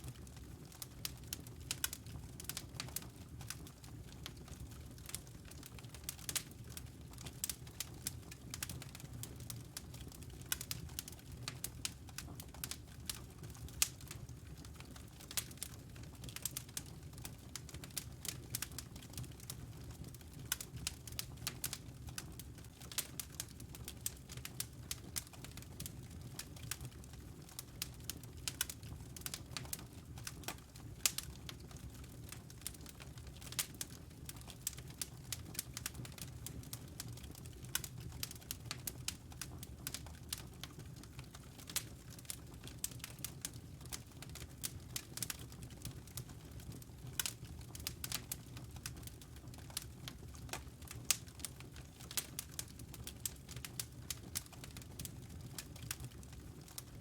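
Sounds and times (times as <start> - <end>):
wood fire crackling in fireplace: 0.0 - 57.0.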